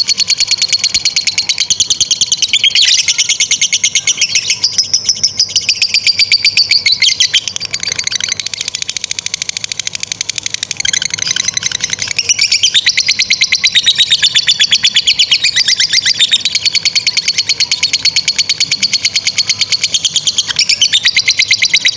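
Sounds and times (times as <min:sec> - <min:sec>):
lovebird chattering trill: 0:00.0 - 0:21.9.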